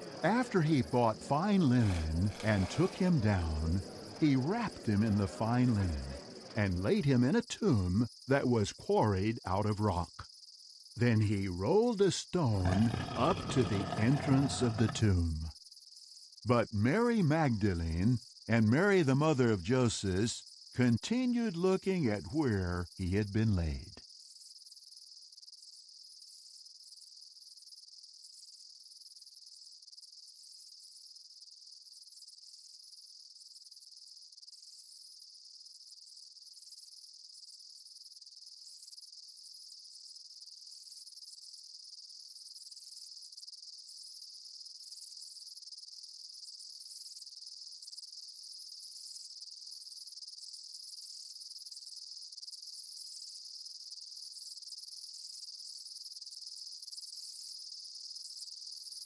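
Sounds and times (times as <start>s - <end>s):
pulsing insect chirp: 0.0s - 19.8s, 20.4s - 59.0s
insects trilling: 0.0s - 59.0s.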